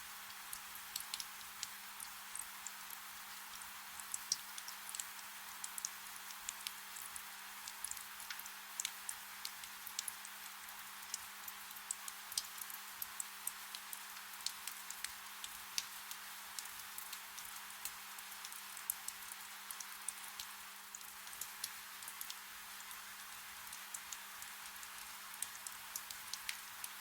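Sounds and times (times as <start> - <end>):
soft rain hissing: 0.0 - 27.0.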